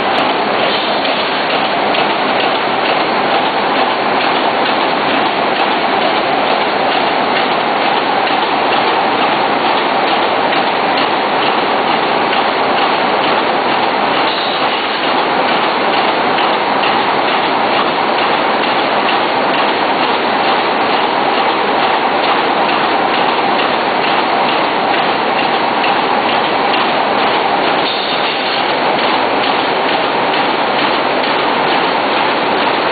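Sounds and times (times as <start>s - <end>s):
welding machine clicks: 0.1s - 32.9s.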